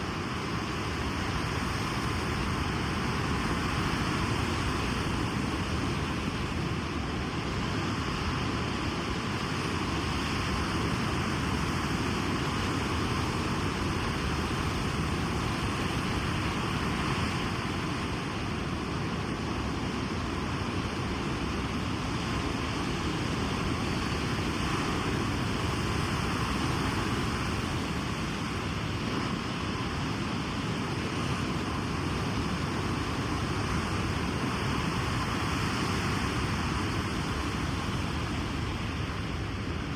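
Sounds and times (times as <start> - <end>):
sea surf on a beach: 0.0 - 39.9.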